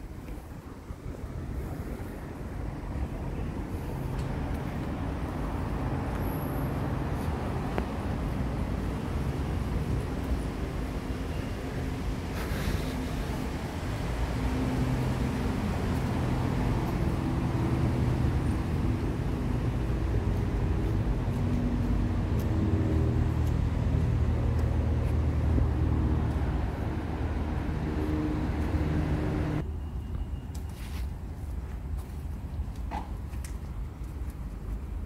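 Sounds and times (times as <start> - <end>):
road traffic engines rumbling: 0.0 - 35.0.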